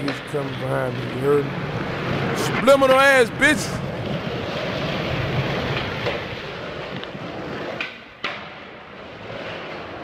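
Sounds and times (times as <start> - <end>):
skateboard clacks: 0.0 - 3.1, 3.8 - 10.0
skateboard wheels rolling on concrete: 0.0 - 10.0.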